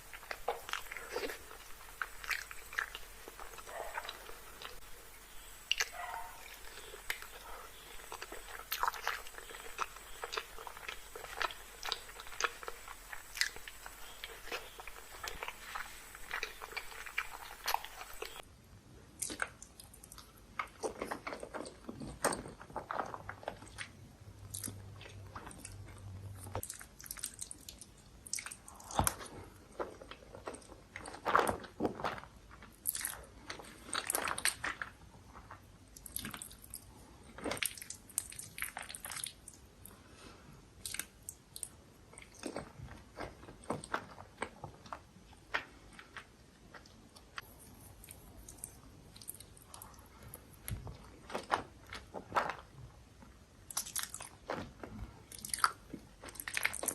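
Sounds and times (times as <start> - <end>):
chewing with wet mouth clicks: 0.0 - 18.4, 19.2 - 40.0, 40.8 - 52.5, 53.6 - 54.6, 55.3 - 56.9.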